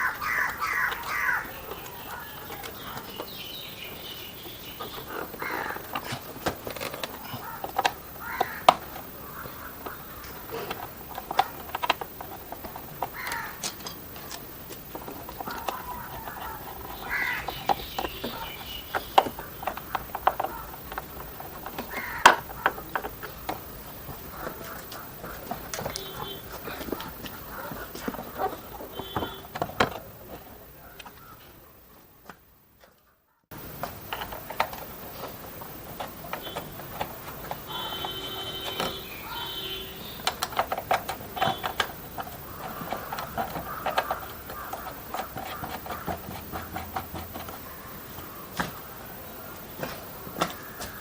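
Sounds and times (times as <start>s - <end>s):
birds making harsh calls: 0.0s - 30.0s, 36.0s - 51.0s
sharp clicks and knocks: 4.8s - 30.4s, 32.3s - 48.8s.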